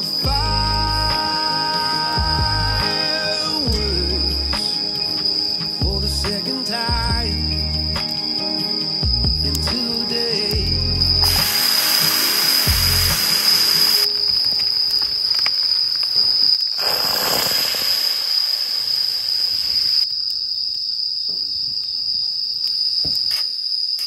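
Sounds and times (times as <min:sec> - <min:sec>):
loud broad hiss: 0:00.0 - 0:20.0
crickets chirping: 0:00.0 - 0:24.0.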